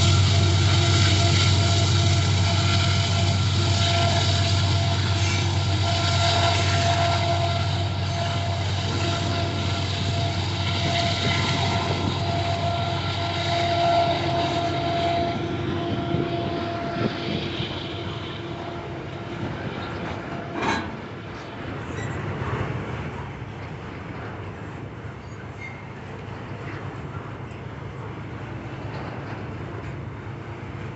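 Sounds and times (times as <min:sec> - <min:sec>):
train rumbling past: 0:00.0 - 0:30.9.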